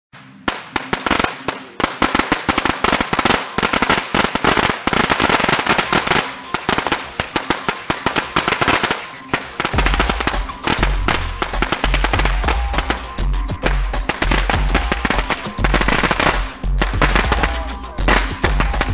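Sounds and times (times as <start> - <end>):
firecrackers crackling: 0.2 - 18.9
music with heavy bass beat: 1.8 - 18.9.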